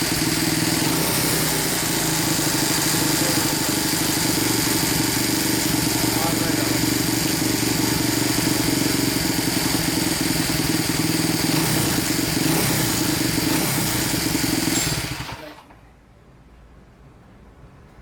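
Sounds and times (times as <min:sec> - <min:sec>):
small motorcycle engine running: 0:00.0 - 0:15.8.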